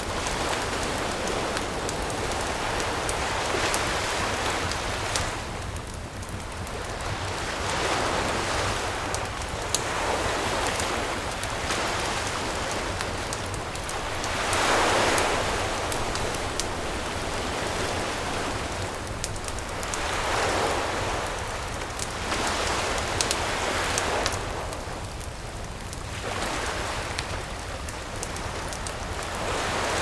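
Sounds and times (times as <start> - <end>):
campfire crackling: 0.0 - 30.0
sea waves washing onto beach: 0.0 - 30.0.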